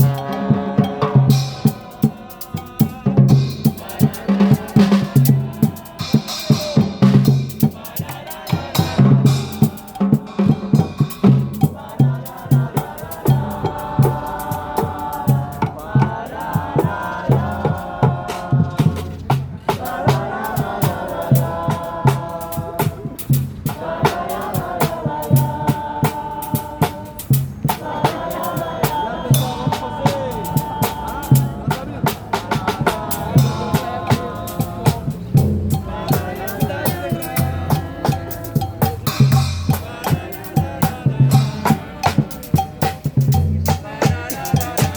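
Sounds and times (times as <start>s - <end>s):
brass band playing: 0.0s - 44.9s
steady drum beat: 0.0s - 44.9s.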